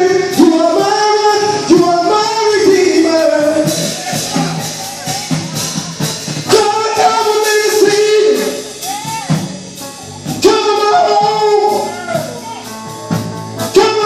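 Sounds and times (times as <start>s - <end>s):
gospel band playing: 0.0s - 14.0s.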